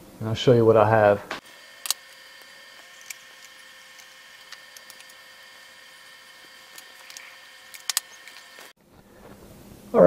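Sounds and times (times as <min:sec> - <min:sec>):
high-pitched electrical hum: 0:00.0 - 0:10.0.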